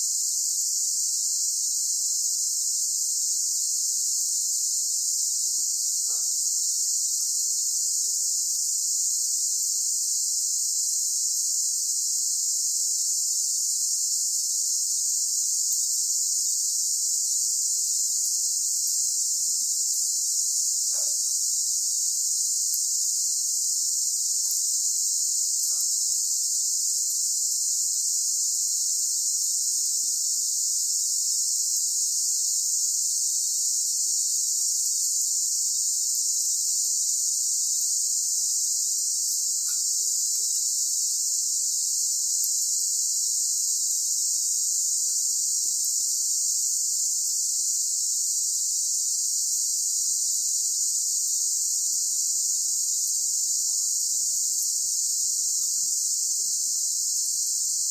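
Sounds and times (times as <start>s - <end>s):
shrill insect chorus: 0.0s - 57.9s.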